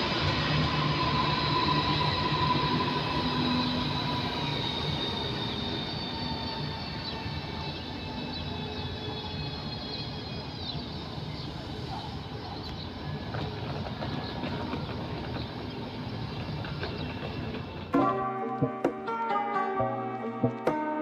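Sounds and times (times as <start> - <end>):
electric train rumbling: 0.0 - 21.0
wheel and brake squeals: 0.8 - 17.9.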